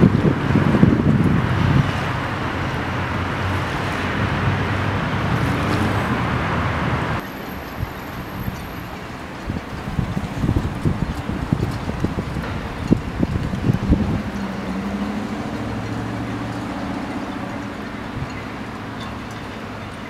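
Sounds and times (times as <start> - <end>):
distant road traffic: 0.0 - 20.0
wind: 0.0 - 20.0.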